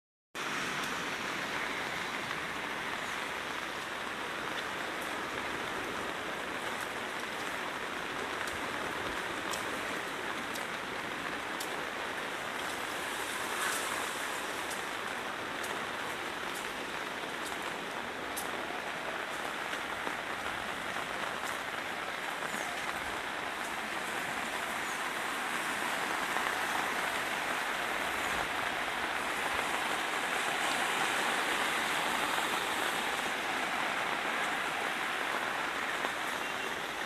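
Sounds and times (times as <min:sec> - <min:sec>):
river water rushing: 0:00.4 - 0:37.0.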